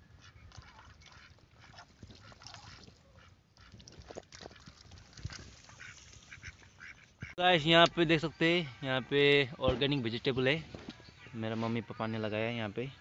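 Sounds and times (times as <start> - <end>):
ducks calling: 0.1 - 13.0.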